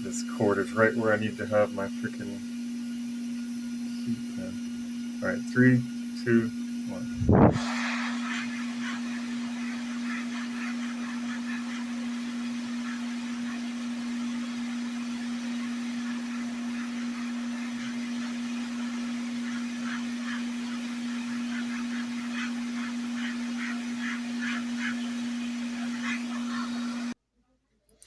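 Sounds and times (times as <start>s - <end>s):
hot-air pen blowing hum: 0.0s - 27.2s.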